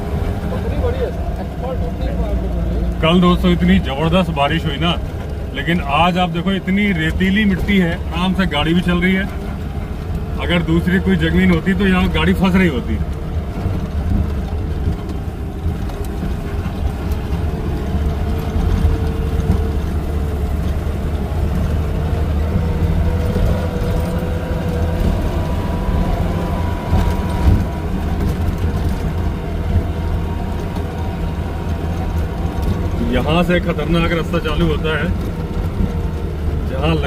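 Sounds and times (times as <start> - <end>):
car engine running: 0.0 - 37.0
car knocking over bumps: 0.0 - 37.0.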